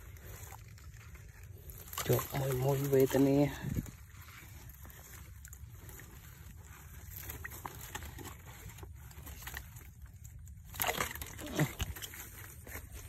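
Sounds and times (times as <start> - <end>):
twigs and grass rustling: 0.0 - 13.0.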